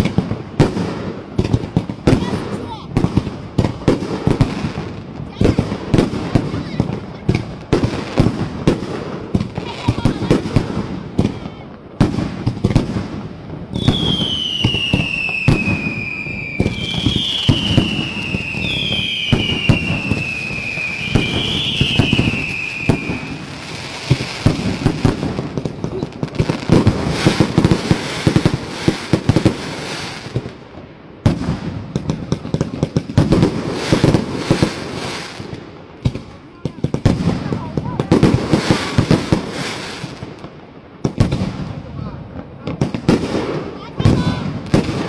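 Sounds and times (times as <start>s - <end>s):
fireworks bangs and crackles: 0.0s - 45.0s
whistling firework shots: 5.3s - 30.6s, 31.2s - 41.8s, 42.7s - 45.0s.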